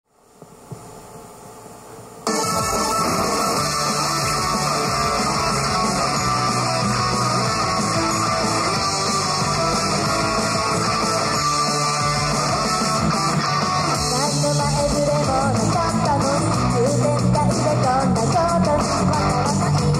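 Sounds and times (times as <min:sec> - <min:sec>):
electric guitar: 0:02.3 - 0:19.9
upbeat pop-rock song: 0:02.3 - 0:19.9.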